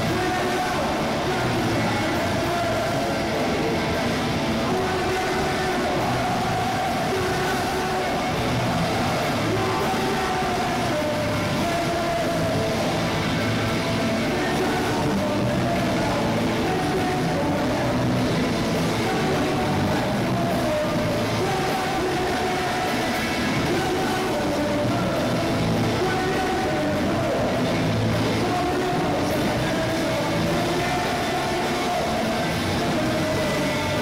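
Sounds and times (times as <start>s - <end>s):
punk band playing live: 0.0s - 34.0s.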